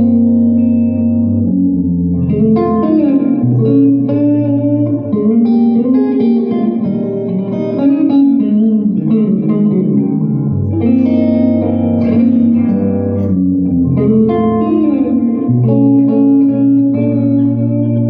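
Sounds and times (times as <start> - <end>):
blues guitar with reverb: 0.0 - 18.0
low bass notes: 0.0 - 18.0.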